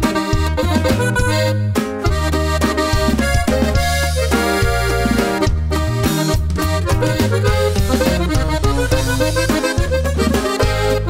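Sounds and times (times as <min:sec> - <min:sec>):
accordion melody: 0:00.0 - 0:11.0
rhythmic chords: 0:00.0 - 0:11.0
steady bass line: 0:00.0 - 0:11.0.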